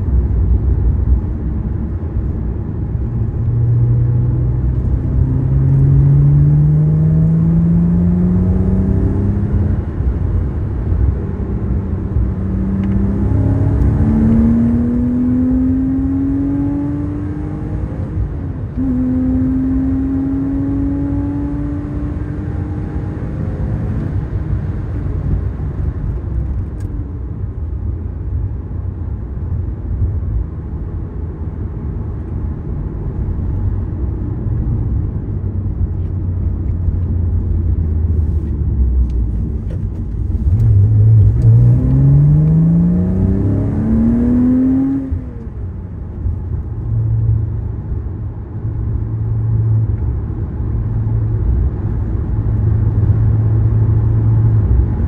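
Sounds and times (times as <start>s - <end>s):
tyre road rumble: 0.0s - 55.0s
car engine accelerating: 0.1s - 26.9s, 32.0s - 55.0s.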